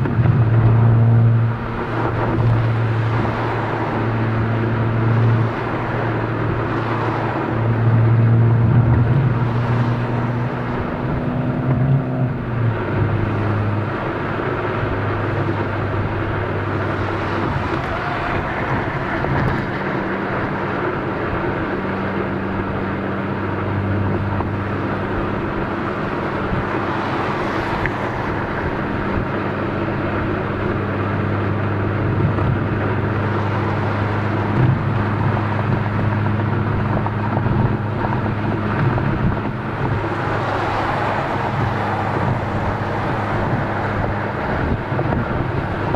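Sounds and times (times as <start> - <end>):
car exhaust low drone: 0.0 - 45.9.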